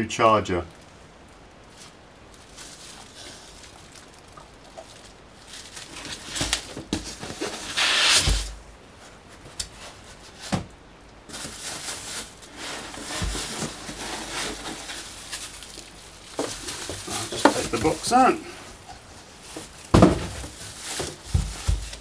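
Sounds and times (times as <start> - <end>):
plastic packaging crinkling: 0.8 - 8.6, 11.3 - 22.0.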